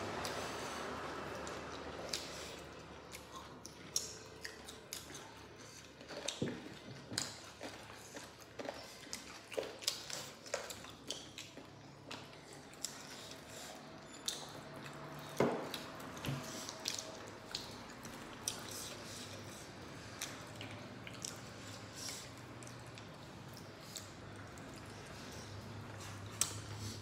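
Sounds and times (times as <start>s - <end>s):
lip smacks and chewing: 0.1s - 27.0s.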